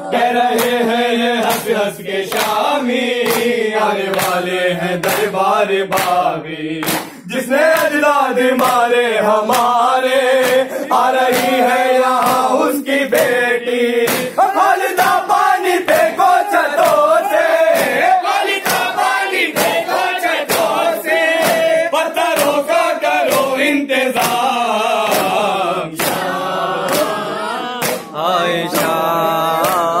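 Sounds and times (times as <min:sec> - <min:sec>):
crowd of men chanting: 0:00.0 - 0:30.0
hands beating on chests: 0:00.5 - 0:04.4, 0:05.0 - 0:08.9, 0:09.5 - 0:13.4, 0:14.0 - 0:23.6, 0:24.2 - 0:26.3, 0:27.8 - 0:29.0.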